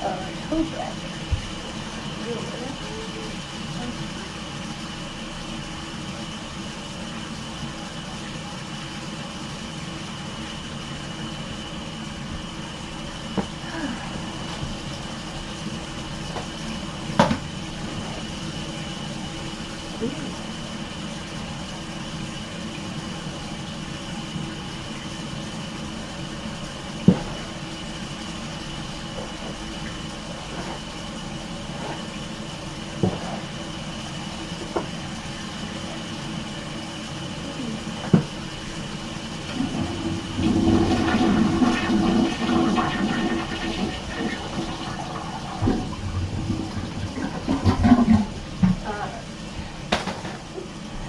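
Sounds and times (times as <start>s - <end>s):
churning rush of water: 0.0s - 5.8s, 6.4s - 51.0s
water running: 0.0s - 51.0s.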